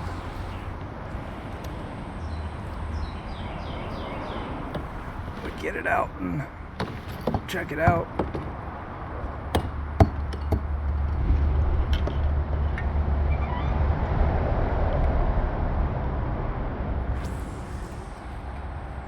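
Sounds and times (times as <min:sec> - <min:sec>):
low rumble of bridge traffic: 0:00.0 - 0:19.0.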